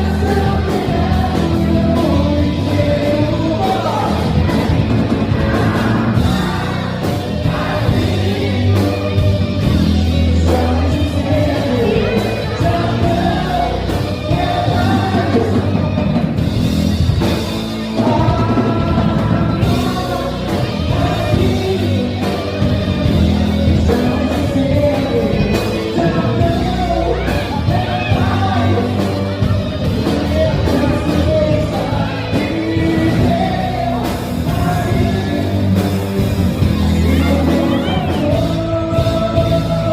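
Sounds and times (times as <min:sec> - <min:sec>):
rock band with singer: 0:00.0 - 0:39.9.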